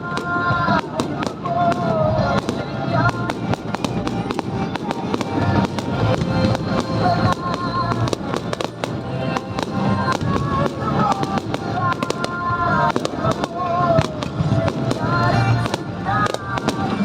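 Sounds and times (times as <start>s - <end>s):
fireworks bursting and crackling: 0.0s - 17.0s
music playing: 0.0s - 17.0s.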